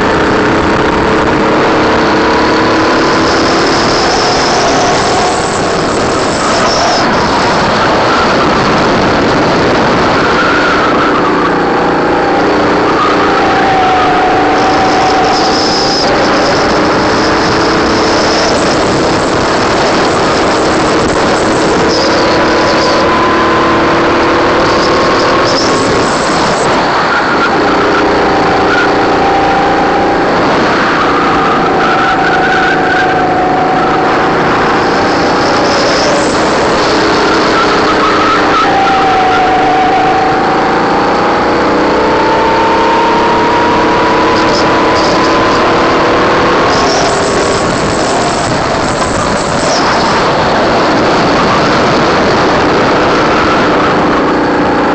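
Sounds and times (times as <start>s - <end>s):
kart engine at speed: 0.0s - 54.9s.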